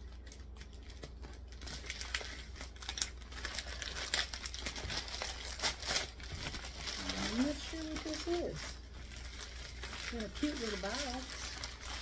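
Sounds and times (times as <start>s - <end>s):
plastic bag crinkling and tearing: 0.0s - 12.0s.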